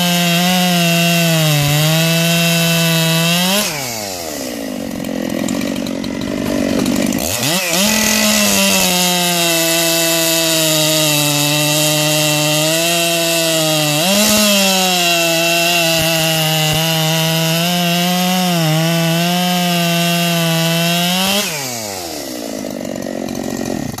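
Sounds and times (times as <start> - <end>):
chainsaw cutting log: 0.0 - 24.0.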